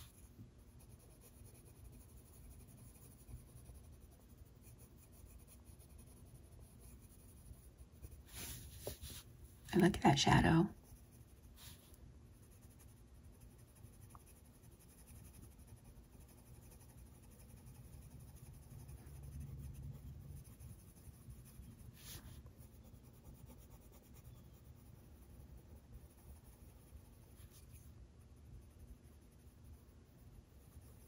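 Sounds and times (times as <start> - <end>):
pencil scratching on paper: 0.0 - 28.0, 28.6 - 31.0.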